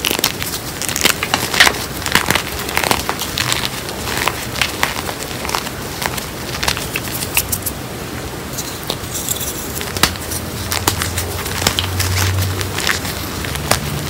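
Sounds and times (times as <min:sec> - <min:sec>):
hands crumbling chalk lumps: 0:00.0 - 0:07.8, 0:08.6 - 0:14.0.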